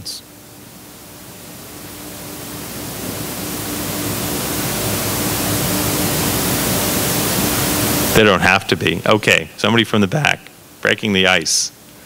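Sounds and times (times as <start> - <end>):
faint electrical hum: 0.0 - 12.0
recording hiss: 0.0 - 12.0.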